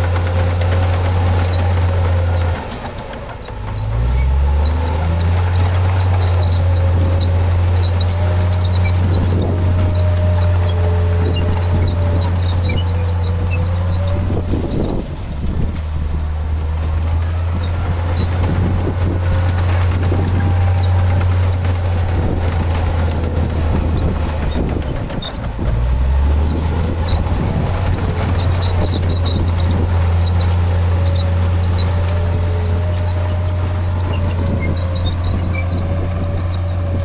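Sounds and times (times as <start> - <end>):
heavy diesel engine droning: 0.0 - 37.0.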